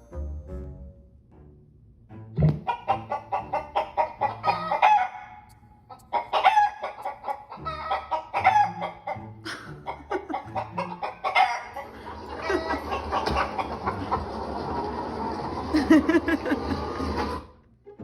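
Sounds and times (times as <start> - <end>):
recorded chicken clucking: 2.4 - 18.0.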